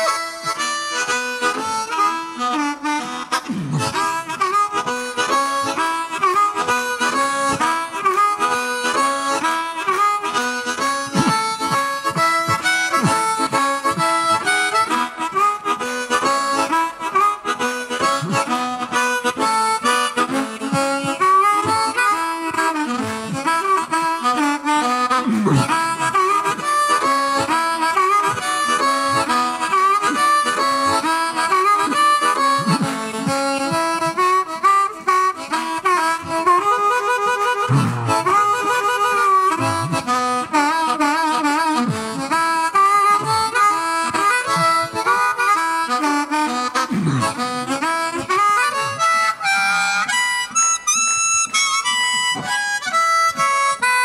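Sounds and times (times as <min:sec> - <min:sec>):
amplified blues harmonica: 0:00.0 - 0:54.0.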